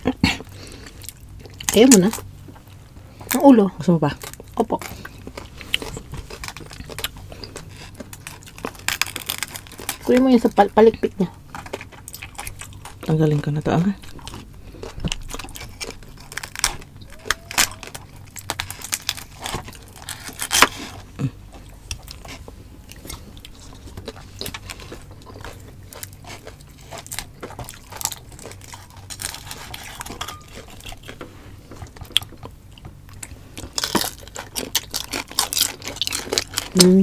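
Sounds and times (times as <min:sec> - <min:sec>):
chewing with crisp crunches: 0:00.0 - 0:37.0.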